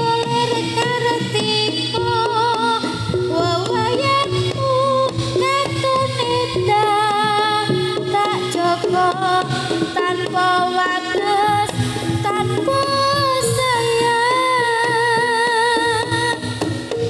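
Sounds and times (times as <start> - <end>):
drums and struck percussion: 0.0 - 17.0.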